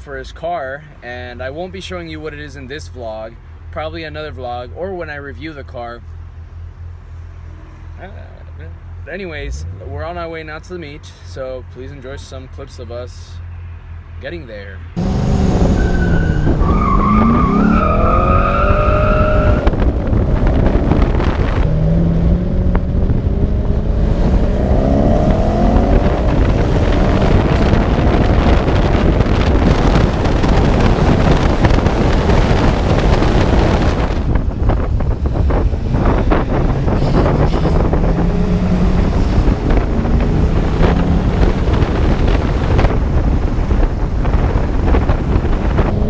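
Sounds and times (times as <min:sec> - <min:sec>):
car engines revving: 0:00.0 - 0:46.0
engine and wind rush at speed: 0:00.0 - 0:46.0.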